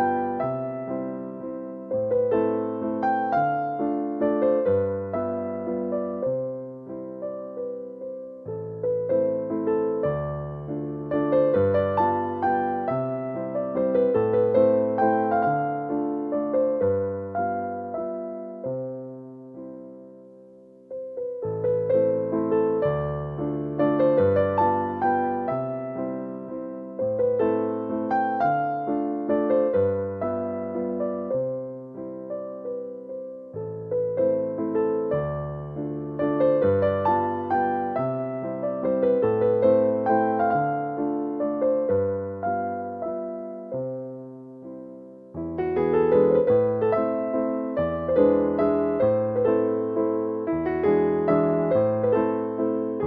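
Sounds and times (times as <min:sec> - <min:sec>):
soft electric piano music: 0:00.0 - 0:53.0.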